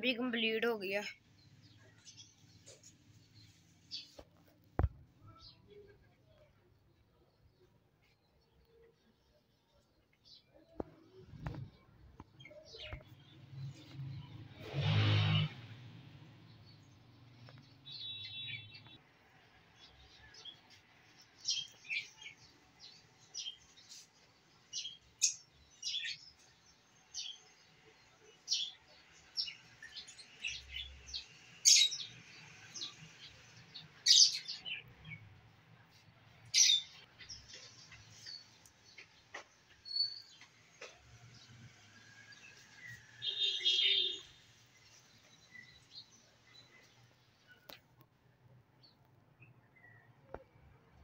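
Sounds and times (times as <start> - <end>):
small birds chirping: 0.0 - 14.8, 16.4 - 50.8.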